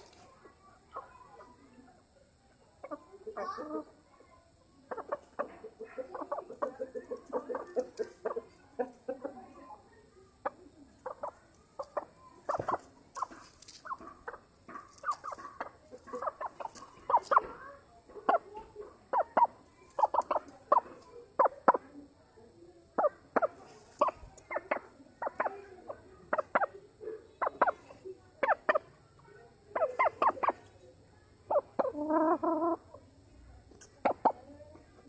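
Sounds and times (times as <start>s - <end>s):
chickens clucking: 0.0s - 2.2s, 2.8s - 4.1s, 4.8s - 22.2s, 22.9s - 34.9s.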